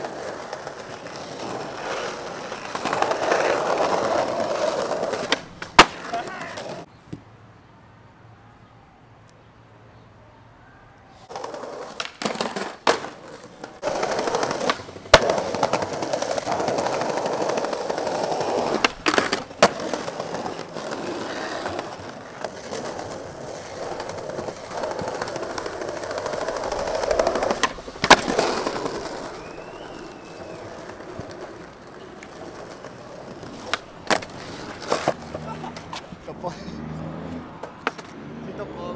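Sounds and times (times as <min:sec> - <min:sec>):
skateboard clacking on ground: 0:00.0 - 0:06.9, 0:11.3 - 0:36.2, 0:37.6 - 0:38.2
skateboard wheels rolling on concrete: 0:00.0 - 0:07.4, 0:10.6 - 0:38.9.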